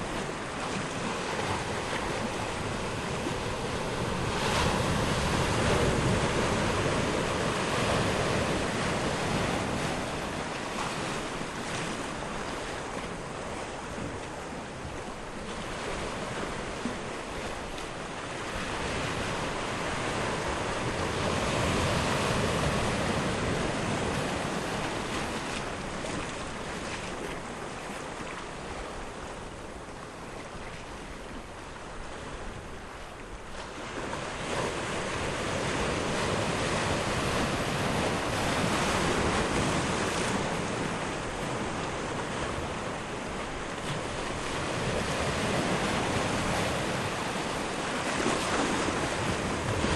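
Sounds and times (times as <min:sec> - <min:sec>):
sea surf washing on shore: 0:00.0 - 0:49.9.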